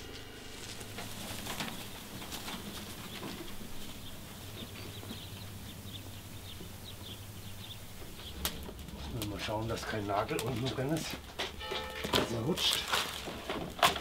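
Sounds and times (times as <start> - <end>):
low steady hum: 0.0 - 14.0
small birds chirping: 0.8 - 14.0.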